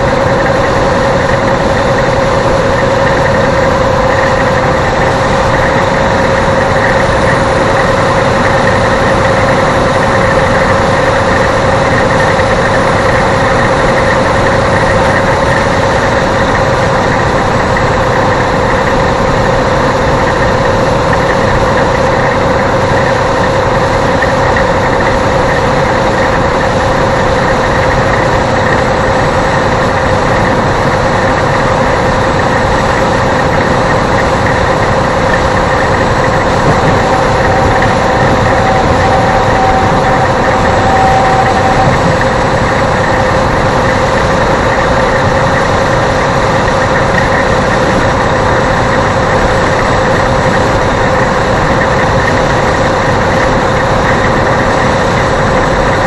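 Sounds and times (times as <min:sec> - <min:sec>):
car road and engine noise: 0:00.0 - 0:56.0
steady humming tone: 0:00.0 - 0:56.0.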